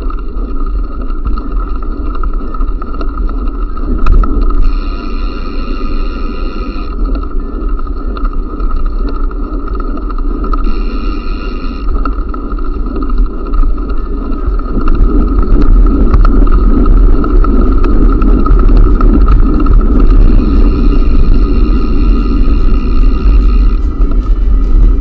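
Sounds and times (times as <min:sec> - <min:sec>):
bike freewheel clicking: 0:00.0 - 0:25.0
rumble: 0:00.0 - 0:25.0
wind buffeting the microphone: 0:00.0 - 0:25.0.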